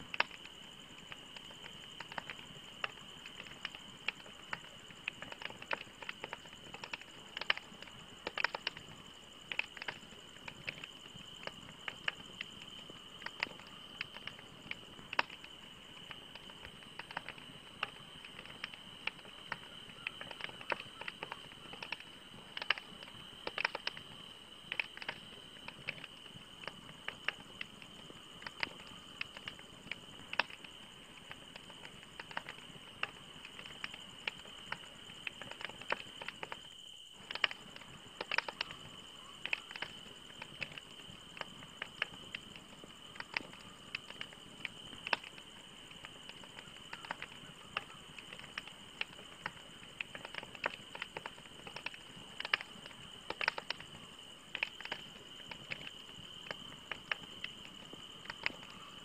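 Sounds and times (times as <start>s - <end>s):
campfire crackling and popping: 0.0s - 59.0s
soft fire hiss: 0.0s - 59.0s.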